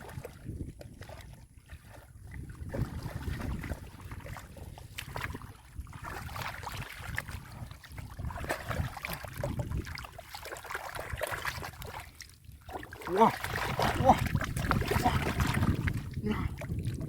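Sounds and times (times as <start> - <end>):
muddy water sloshing and splashing: 0.0 - 17.0.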